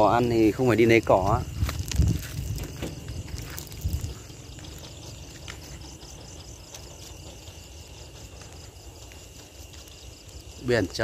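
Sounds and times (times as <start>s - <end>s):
night insects chirping: 0.0s - 11.0s
straw burning crackles: 0.0s - 11.0s.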